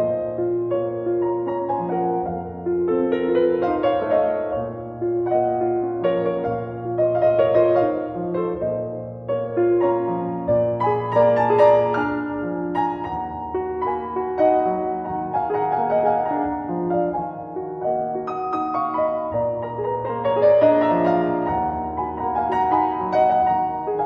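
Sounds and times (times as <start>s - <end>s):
slow gentle piano music: 0.0s - 24.0s.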